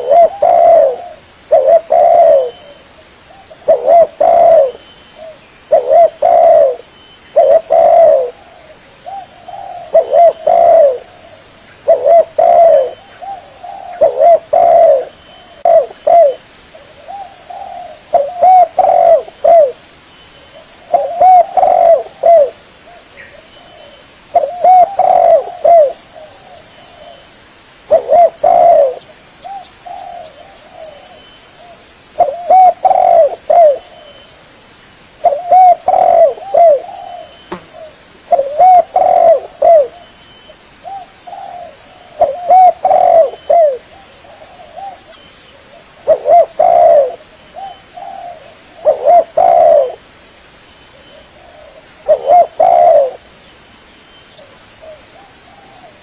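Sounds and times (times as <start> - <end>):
dove cooing: 0.0 - 19.9, 20.5 - 27.3, 27.9 - 34.3, 35.2 - 40.2, 40.8 - 50.1, 50.9 - 53.3.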